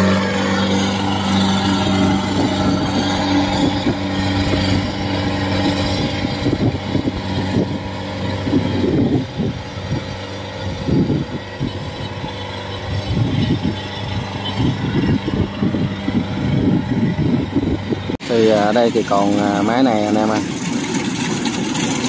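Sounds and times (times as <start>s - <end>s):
harvester engine humming and rumbling: 0.0s - 22.0s.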